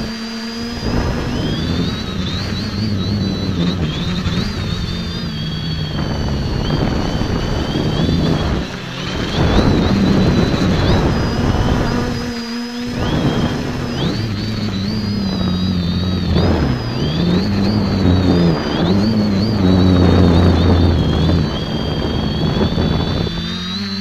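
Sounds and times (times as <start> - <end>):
rushing air: 0.0 - 23.6
drone motor whine: 0.0 - 24.0
low propeller hum: 0.0 - 24.0.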